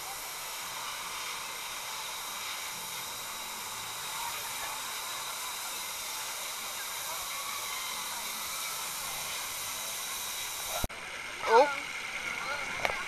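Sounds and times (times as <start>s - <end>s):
rushing water hiss: 0.0s - 13.0s.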